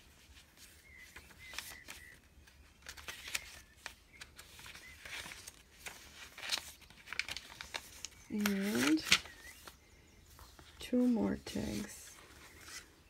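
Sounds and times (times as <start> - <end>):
paper pages turning: 0.0 - 13.0.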